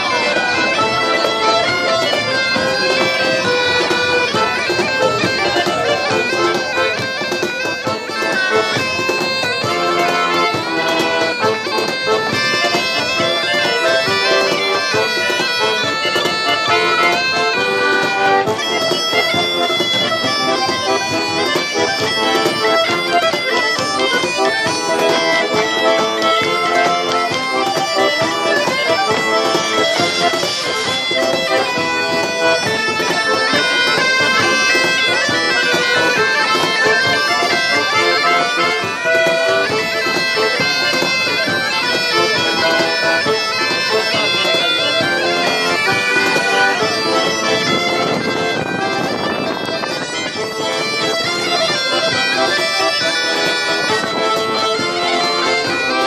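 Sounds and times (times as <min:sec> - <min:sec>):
bagpipes with drone: 0:00.0 - 0:56.0
button accordion: 0:00.0 - 0:56.0
cajon beat: 0:00.0 - 0:56.0.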